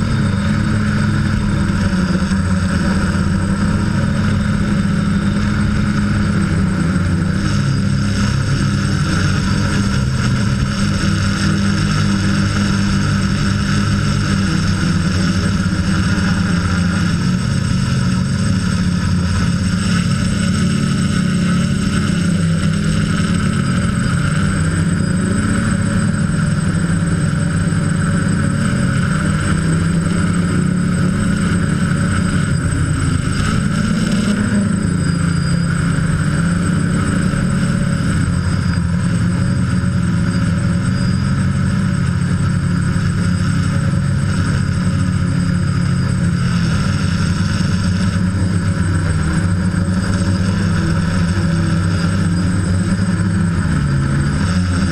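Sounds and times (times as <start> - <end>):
drone propellers buzzing: 0.0 - 54.9.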